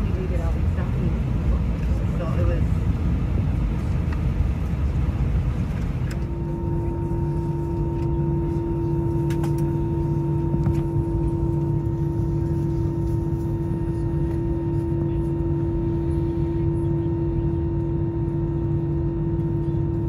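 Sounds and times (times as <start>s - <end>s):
engine and airflow rumble: 0.0s - 20.0s
steady engine tone: 0.0s - 20.0s.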